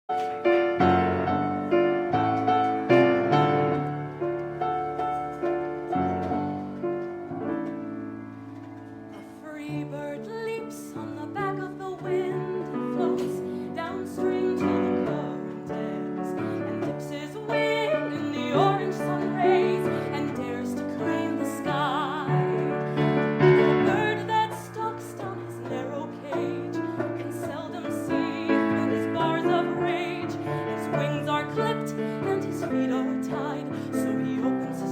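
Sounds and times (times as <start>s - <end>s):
slow piano chords: 0.1s - 34.9s.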